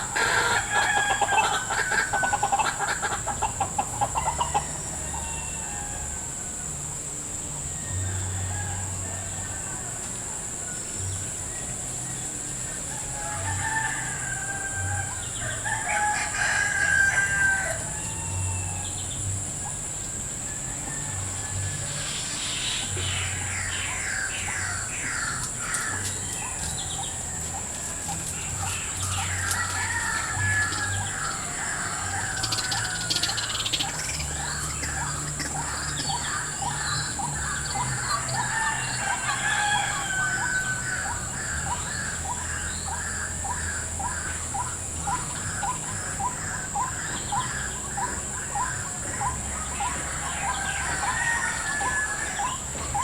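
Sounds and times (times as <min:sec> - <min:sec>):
loud fowl-like bird calls: 0:00.0 - 0:06.7, 0:12.7 - 0:19.8, 0:20.4 - 0:53.0.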